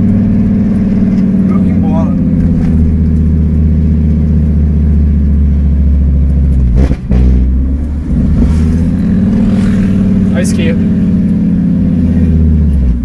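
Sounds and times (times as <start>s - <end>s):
loud car engine drone: 0.0s - 13.0s.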